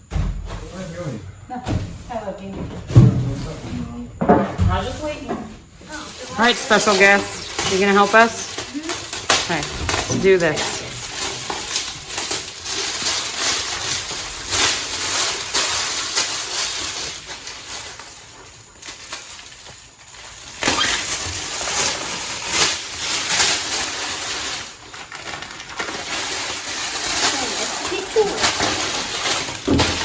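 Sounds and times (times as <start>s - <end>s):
plastic sheeting rustling: 5.8s - 30.0s.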